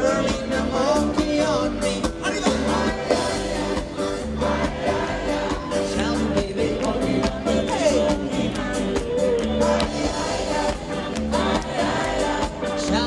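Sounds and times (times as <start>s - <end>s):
live band music: 0.0s - 13.0s
person singing: 0.0s - 13.0s.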